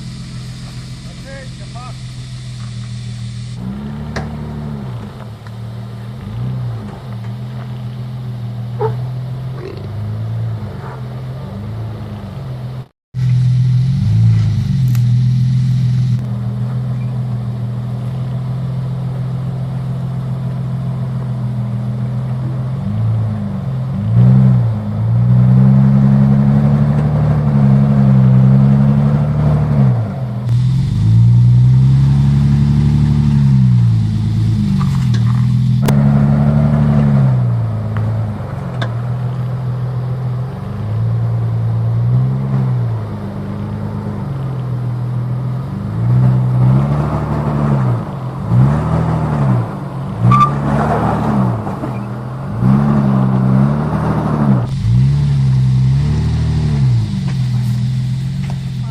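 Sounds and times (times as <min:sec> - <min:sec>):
engine revving under load: 0:00.0 - 0:58.9.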